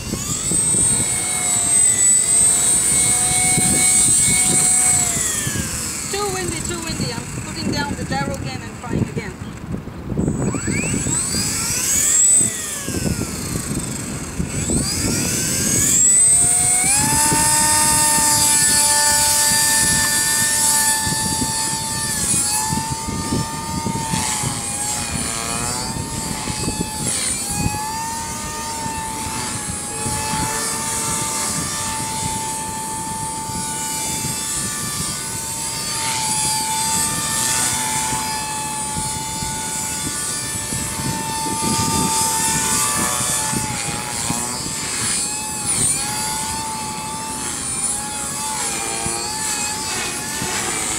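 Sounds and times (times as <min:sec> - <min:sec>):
rc helicopter rotor whine: 0:00.0 - 0:50.9
wind on microphone: 0:00.0 - 0:50.9.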